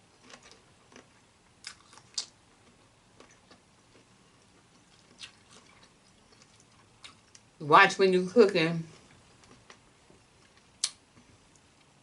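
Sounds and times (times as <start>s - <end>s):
eating crab and shrimp: 0.0s - 7.6s, 8.9s - 12.0s.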